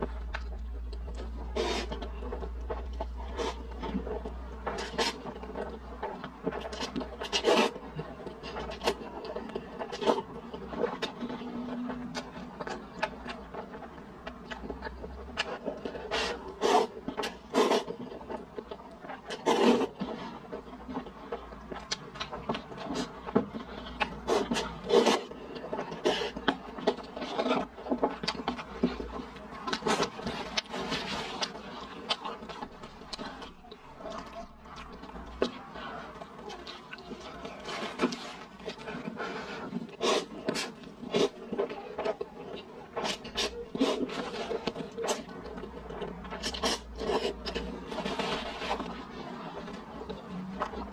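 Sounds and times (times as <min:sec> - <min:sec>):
noodles slurped and chewed: 0:00.0 - 0:50.9.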